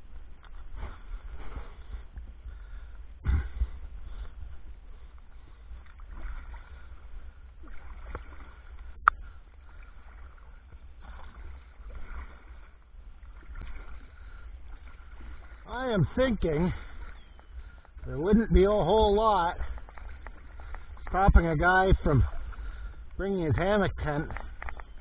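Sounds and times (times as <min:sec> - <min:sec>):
paddle swishing water: 0:00.0 - 0:25.0
steady low rumble: 0:00.0 - 0:25.0.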